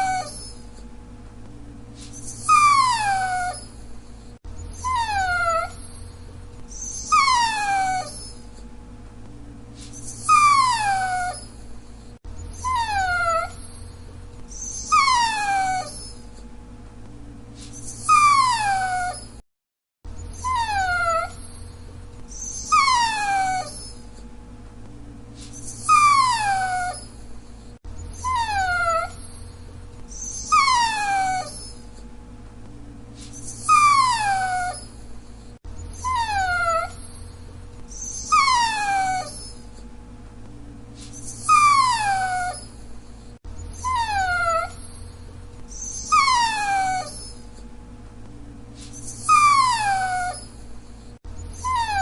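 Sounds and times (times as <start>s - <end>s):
dog whining: 0.0s - 0.9s, 2.0s - 8.7s, 9.8s - 16.5s, 17.6s - 19.4s, 20.1s - 24.3s, 25.4s - 32.1s, 33.2s - 39.9s, 41.0s - 47.7s, 48.8s - 52.0s
faint steady hum: 0.0s - 19.4s, 20.1s - 52.0s.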